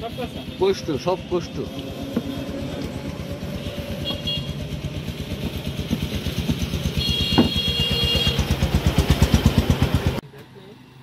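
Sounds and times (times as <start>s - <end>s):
small engine running: 0.0s - 10.2s.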